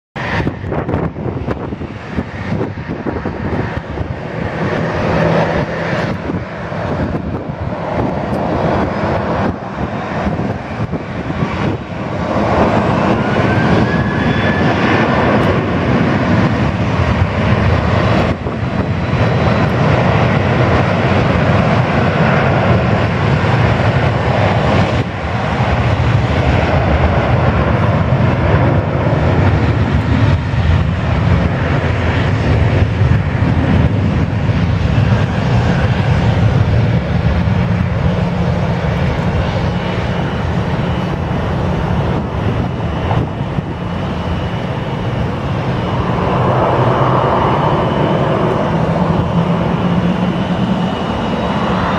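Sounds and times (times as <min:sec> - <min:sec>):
jet engine roar: 0:00.2 - 0:51.9
rising engine whine: 0:00.2 - 0:51.9.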